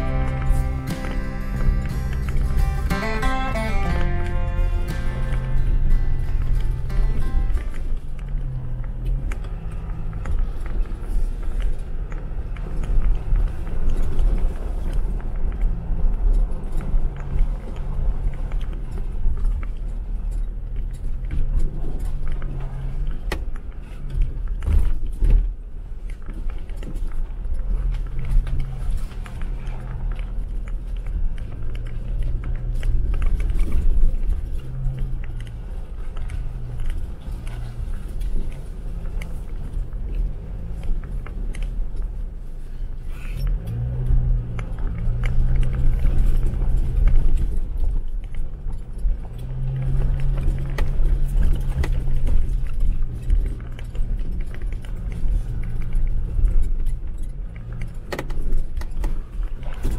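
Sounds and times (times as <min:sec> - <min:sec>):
engine running low: 0:00.0 - 0:59.9.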